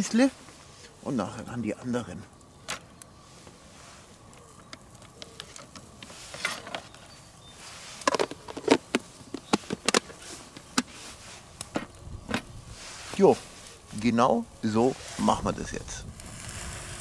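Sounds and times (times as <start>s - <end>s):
skewers sizzling over charcoal: 0.0s - 17.0s.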